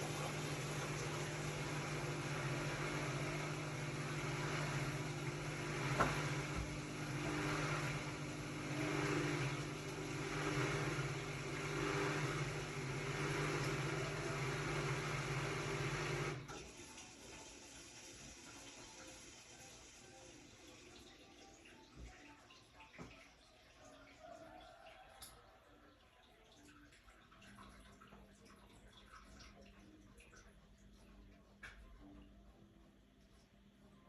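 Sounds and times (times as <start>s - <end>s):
washing machine humming: 0.0s - 34.0s.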